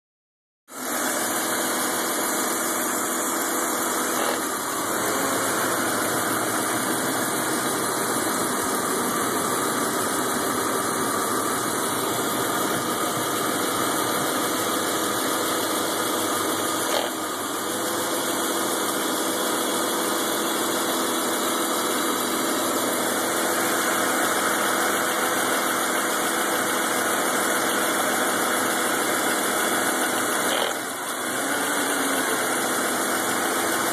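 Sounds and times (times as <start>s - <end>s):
car engine idling roughly: 0.7s - 33.9s.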